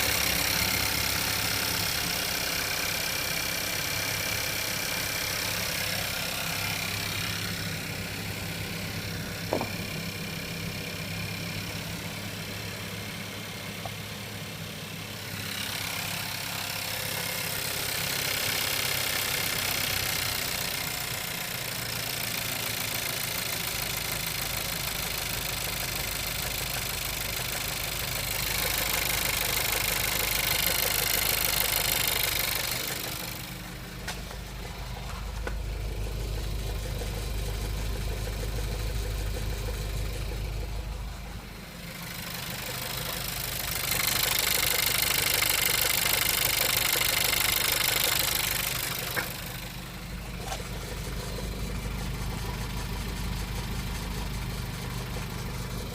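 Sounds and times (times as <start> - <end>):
car engine idling with knock: 0.0 - 55.9.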